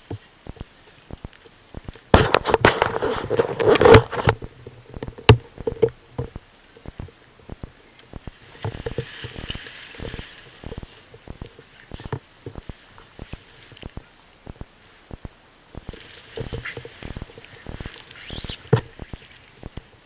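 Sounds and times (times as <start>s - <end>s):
rustling handling noise: 0.1s - 20.0s.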